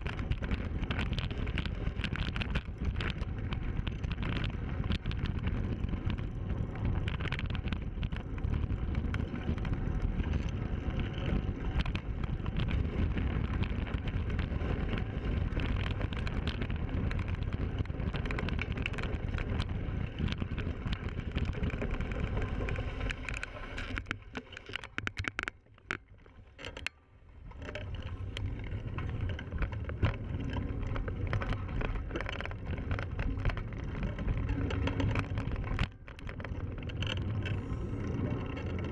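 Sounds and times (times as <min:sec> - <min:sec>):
bicycle rattling on dirt trail: 0:00.0 - 0:38.9.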